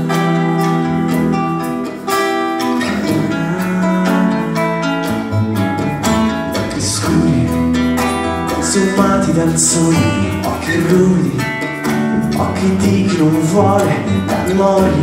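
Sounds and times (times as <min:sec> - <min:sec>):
guitar strumming: 0:00.0 - 0:15.0
held melodic notes: 0:00.0 - 0:15.0.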